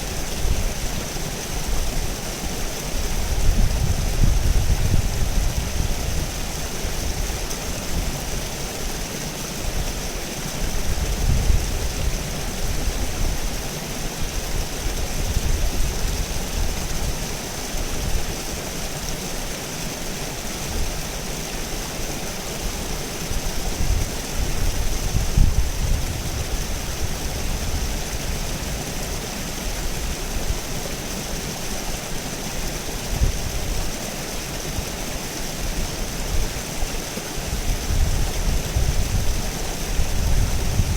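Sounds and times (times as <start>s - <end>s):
river water rushing over rocks: 5.1s - 40.9s.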